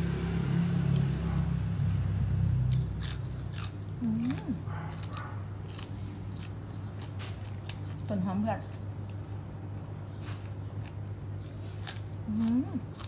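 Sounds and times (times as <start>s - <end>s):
low steady hum: 0.0s - 13.0s
person chewing crisp food: 2.3s - 13.0s.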